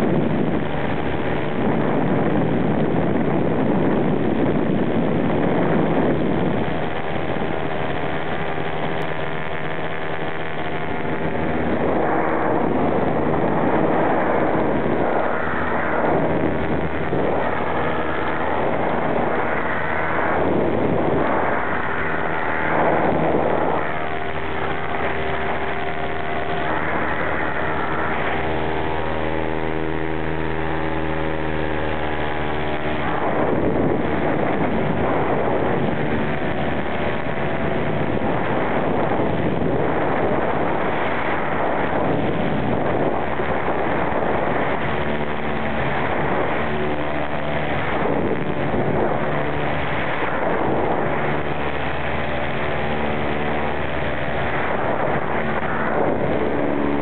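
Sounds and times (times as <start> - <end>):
paramotor engine running: 0.0 - 57.0
wind on microphone: 0.0 - 57.0.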